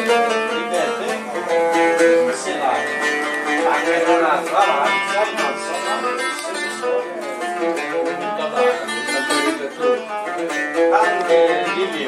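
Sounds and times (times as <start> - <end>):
plucked lute-like strings melody: 0.0 - 12.0.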